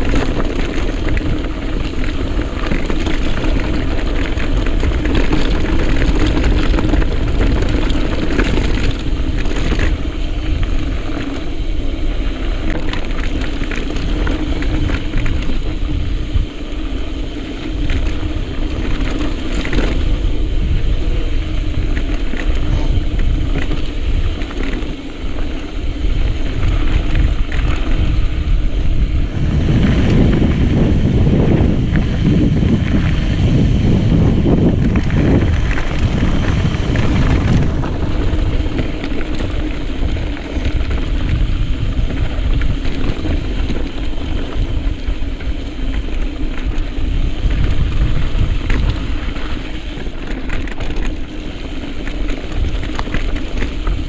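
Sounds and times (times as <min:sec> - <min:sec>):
bike rattling over bumps: 0:00.0 - 0:54.0
bike tyres on dirt and rock: 0:00.0 - 0:54.0
wind buffeting microphone: 0:00.0 - 0:54.0.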